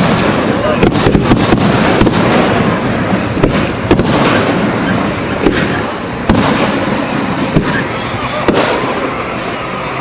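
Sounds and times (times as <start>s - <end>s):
fireworks bursting with booms: 0.0s - 9.8s
continuous wash of noise: 0.0s - 10.0s.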